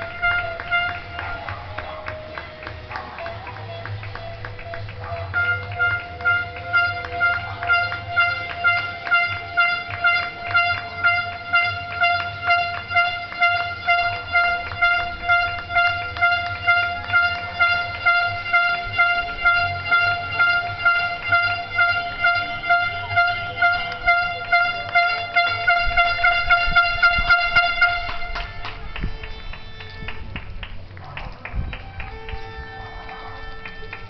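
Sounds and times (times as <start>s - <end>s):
horn sounding steady pulses: 0.0s - 34.0s
scattered hand clapping: 0.0s - 34.0s.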